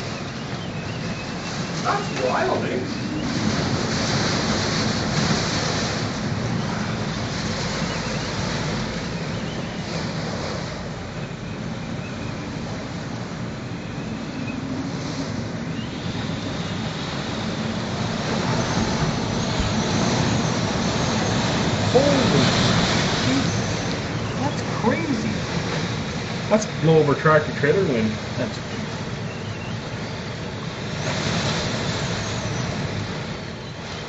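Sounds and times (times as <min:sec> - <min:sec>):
strong wind buffeting microphone: 0:00.0 - 0:34.0.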